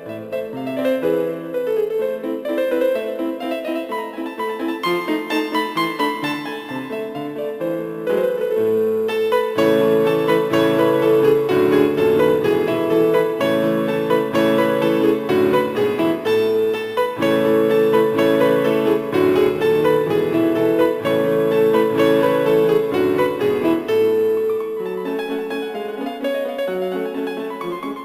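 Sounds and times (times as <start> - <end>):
background piano music: 0.0 - 28.0.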